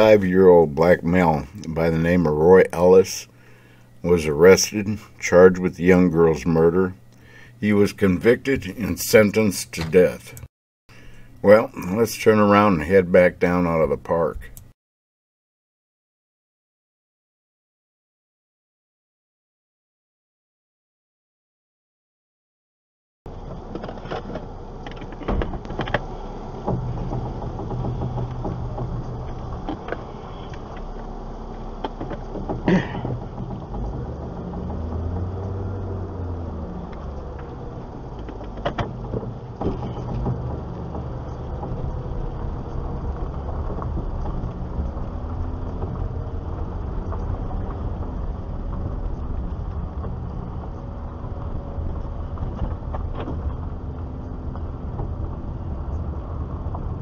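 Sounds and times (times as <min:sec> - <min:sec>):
car engine: 0:00.0 - 0:14.7, 0:23.3 - 0:57.0
road noise: 0:00.0 - 0:14.7, 0:23.3 - 0:57.0.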